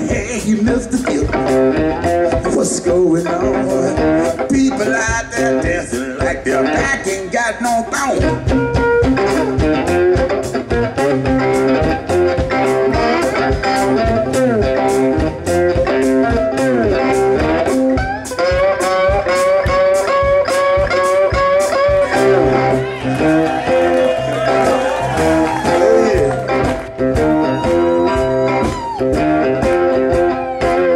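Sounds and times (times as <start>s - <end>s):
steady drum beat: 0.0s - 30.9s
amplified slide guitar lead: 1.2s - 6.9s, 8.2s - 30.9s.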